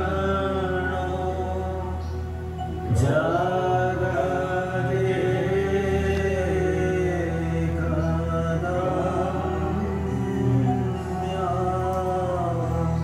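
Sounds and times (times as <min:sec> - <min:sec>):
devotional chanting: 0:00.0 - 0:13.0
low drone: 0:00.0 - 0:13.0.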